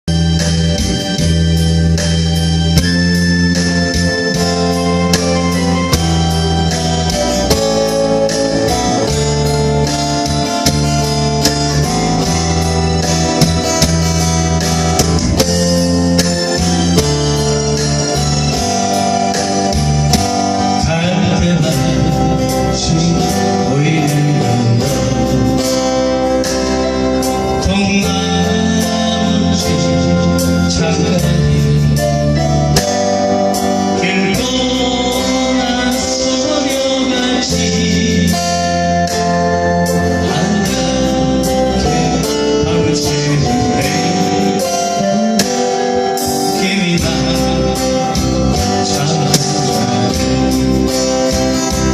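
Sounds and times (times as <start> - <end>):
guitar-led band music: 0.0 - 51.9
person singing: 2.5 - 51.9.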